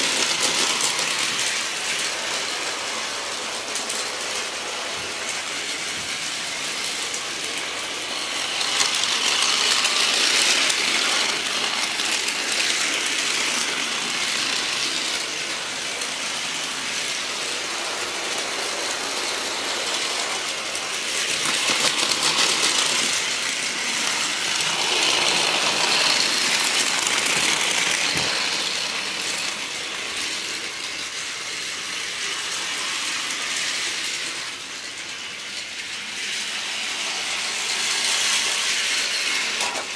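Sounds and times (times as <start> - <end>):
toy trains whirring and clattering: 0.0 - 39.9.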